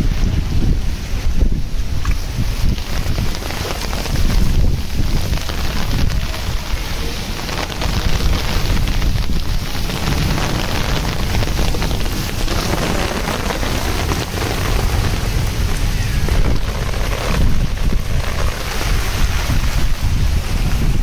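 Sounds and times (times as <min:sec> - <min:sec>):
wind rumble on microphone: 0:00.0 - 0:21.0
hailstones pelting down: 0:01.9 - 0:21.0.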